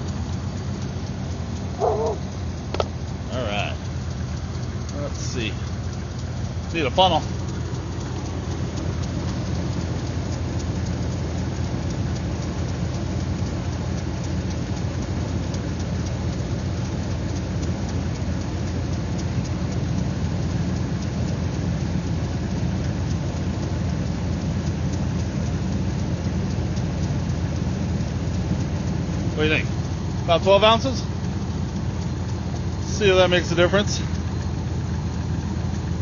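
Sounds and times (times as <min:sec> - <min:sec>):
fast fine ticking: 0:00.0 - 0:36.0
truck engine idling: 0:00.0 - 0:36.0.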